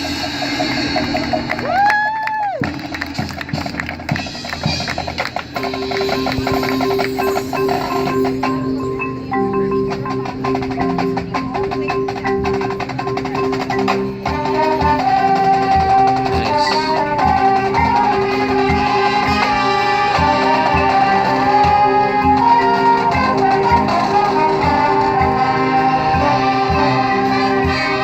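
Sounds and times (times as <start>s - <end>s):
mallet percussion notes: 0.0s - 28.0s
marching band music: 0.0s - 28.0s.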